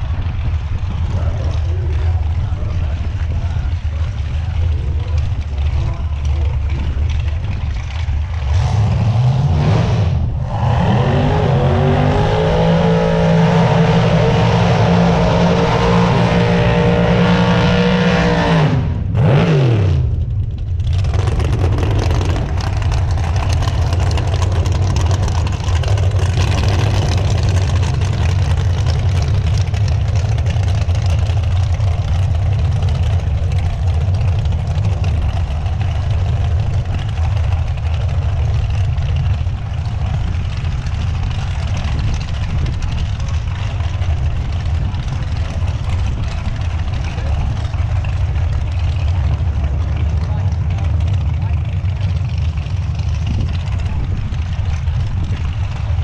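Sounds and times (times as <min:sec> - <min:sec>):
car engine revving: 0:00.0 - 0:56.0
heavy engine rumble: 0:00.0 - 0:56.0.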